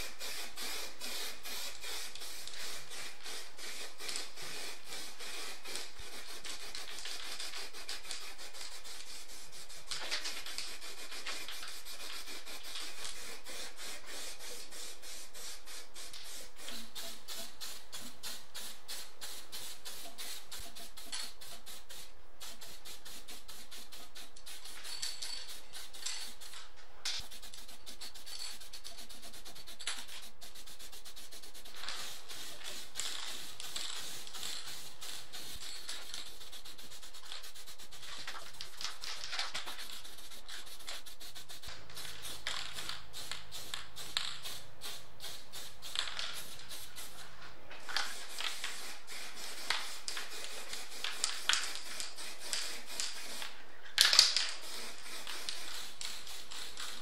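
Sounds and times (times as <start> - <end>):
spray-paint can hissing: 0.0 - 57.0.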